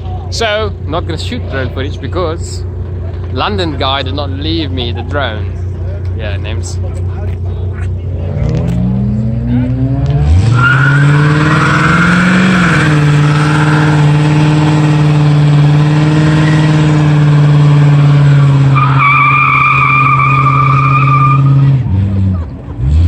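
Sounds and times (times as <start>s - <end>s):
car engine revving: 0.4s - 23.0s.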